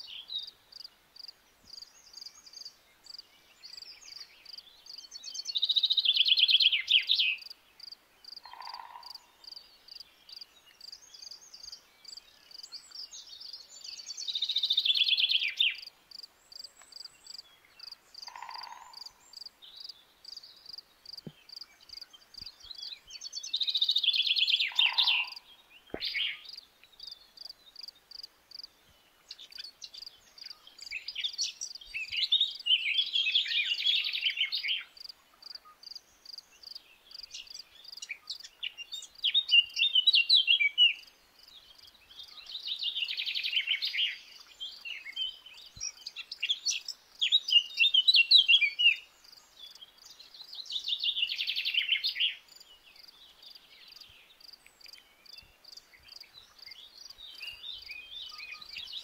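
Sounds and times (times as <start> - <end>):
crickets chirping: 0.0 - 59.0
songbirds singing: 0.0 - 59.0.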